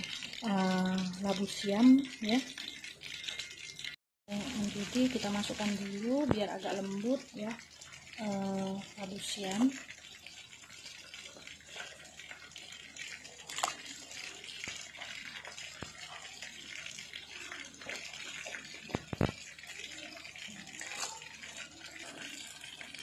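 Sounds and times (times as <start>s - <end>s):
water fizzing and bubbling: 0.0s - 23.0s.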